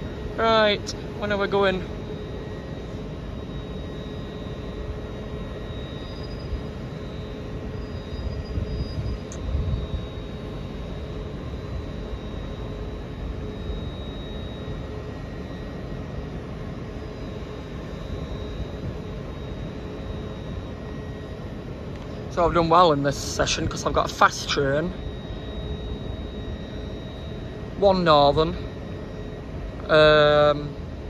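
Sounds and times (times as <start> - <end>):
train equipment whining hum: 0.0 - 31.0.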